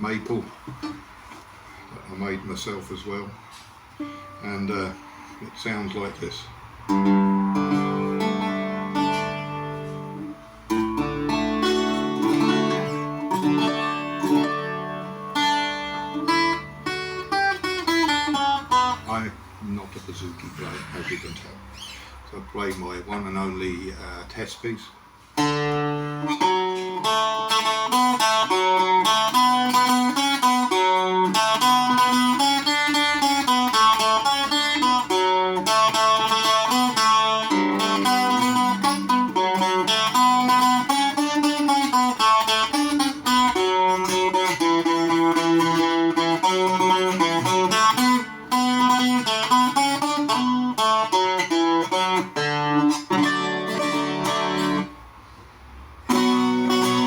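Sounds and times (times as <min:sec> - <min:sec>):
plucked bouzouki tune: 0:03.5 - 0:21.4, 0:25.0 - 0:55.2, 0:56.0 - 0:57.0.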